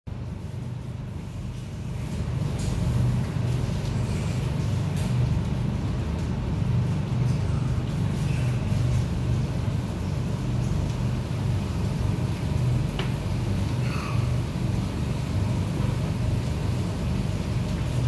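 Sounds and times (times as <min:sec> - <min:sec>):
ventilation machinery hum: 0:00.1 - 0:18.0.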